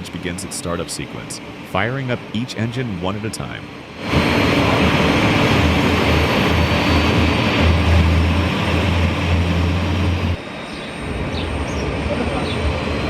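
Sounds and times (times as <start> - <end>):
jet engine rushing noise: 0.0 - 13.0
low hum: 1.3 - 13.0.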